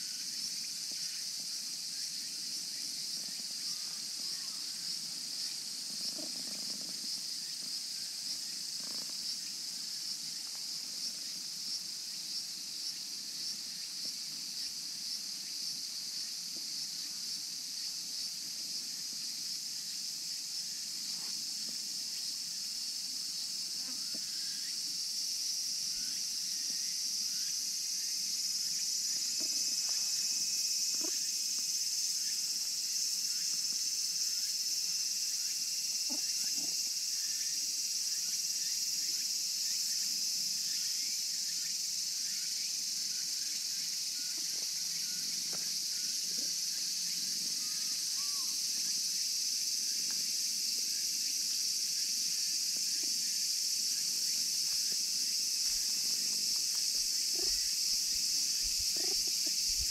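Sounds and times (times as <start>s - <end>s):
insect chorus shrilling: 0.0s - 59.9s.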